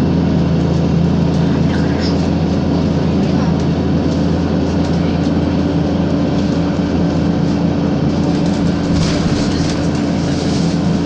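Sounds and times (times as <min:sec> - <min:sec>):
bus engine hum: 0:00.0 - 0:11.0
road noise: 0:00.0 - 0:11.0.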